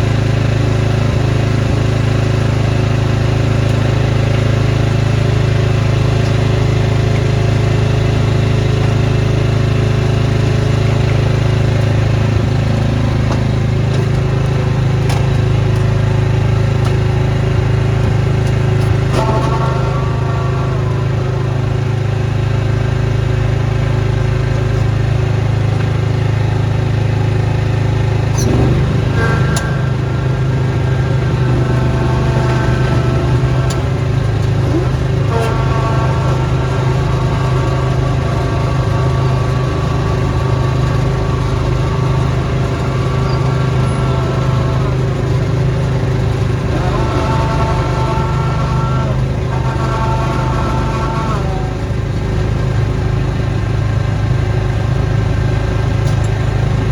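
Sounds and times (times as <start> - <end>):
snowblower engine running: 0.0 - 56.9.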